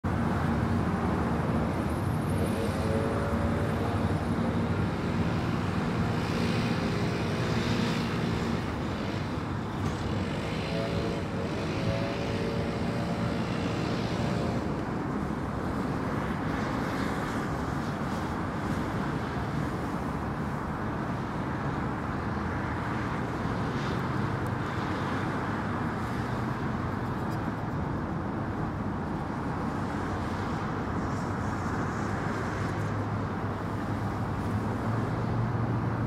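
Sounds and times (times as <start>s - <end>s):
highway traffic noise: 0.0s - 36.0s.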